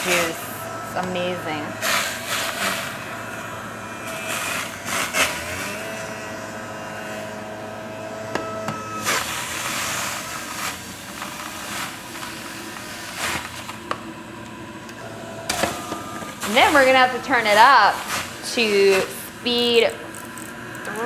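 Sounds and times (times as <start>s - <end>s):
fruit being shredded: 0.0s - 20.8s
juicer motor whine: 0.0s - 21.0s.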